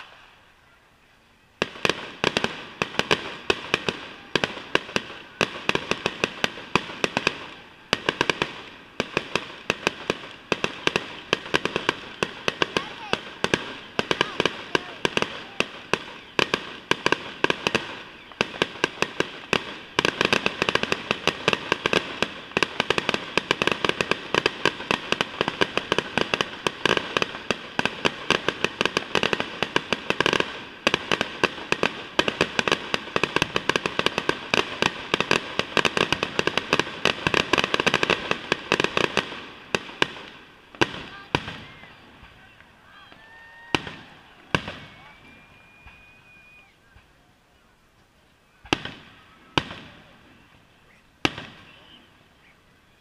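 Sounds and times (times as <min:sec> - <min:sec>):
fireworks bangs and crackling: 0:01.5 - 0:47.3, 0:48.4 - 0:53.0.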